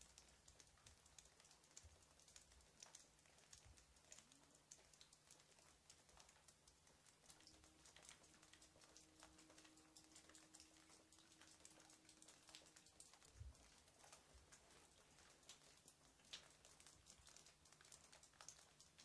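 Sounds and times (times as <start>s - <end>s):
faint light clicks and crackles: 0.0s - 19.0s
faint steady hum: 0.0s - 19.0s.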